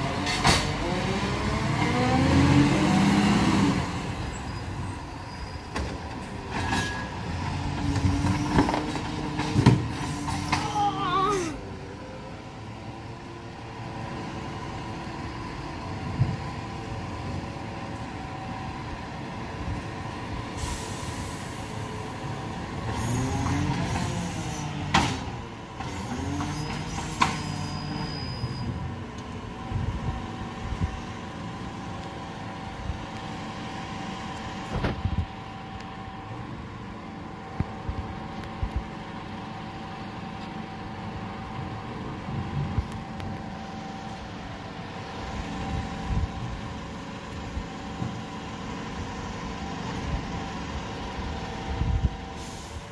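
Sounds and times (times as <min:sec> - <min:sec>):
garbage truck engine and hydraulics: 0:00.0 - 0:52.9.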